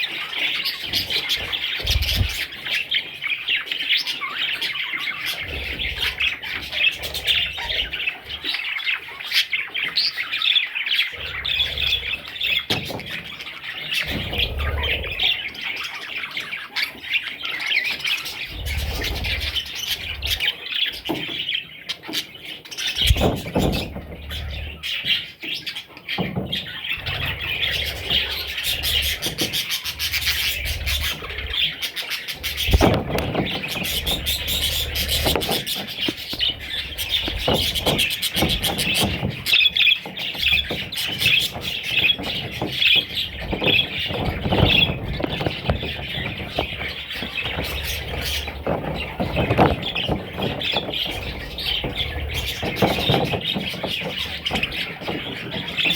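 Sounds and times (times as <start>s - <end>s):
budgerigars chirping and chattering: 0.0s - 55.9s.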